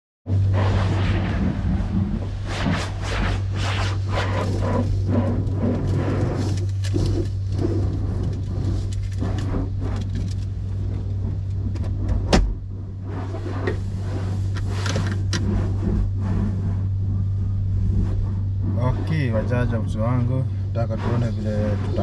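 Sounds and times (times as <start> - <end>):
steady low hum: 0.3 - 22.0
water spraying against car: 0.3 - 22.0.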